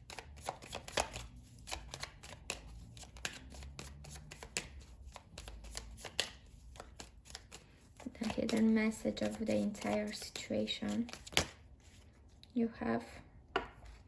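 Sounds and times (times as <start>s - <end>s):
cards being shuffled: 0.1s - 12.3s.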